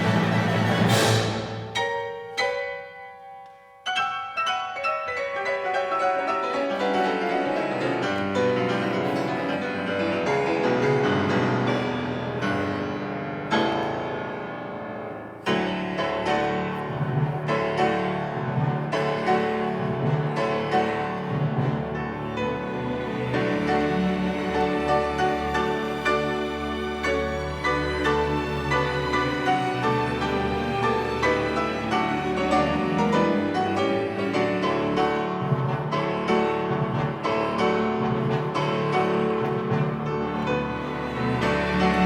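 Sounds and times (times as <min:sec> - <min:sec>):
classical piano music: 0:00.0 - 0:42.0.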